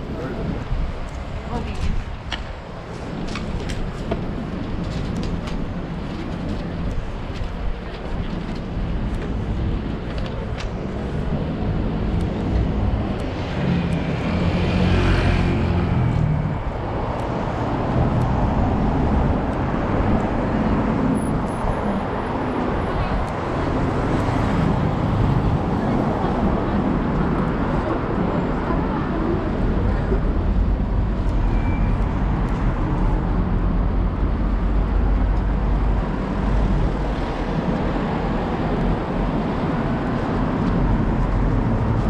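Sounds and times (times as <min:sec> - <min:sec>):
traffic rumble: 0:00.0 - 0:42.0.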